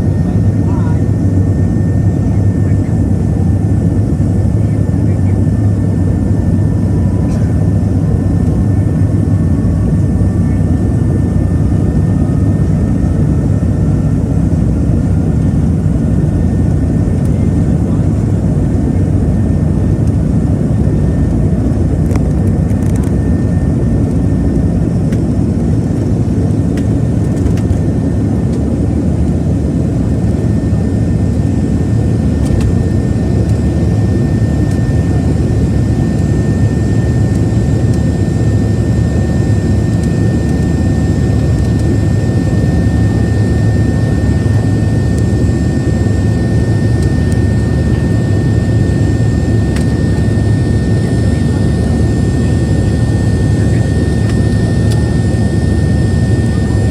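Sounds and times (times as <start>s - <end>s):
jet engines running: 0.0s - 56.9s
thin steady engine whine: 0.0s - 56.9s.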